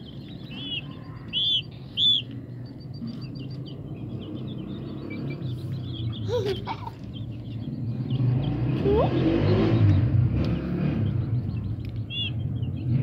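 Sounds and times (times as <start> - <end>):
passing vehicle engine rumble: 0.0 - 13.0.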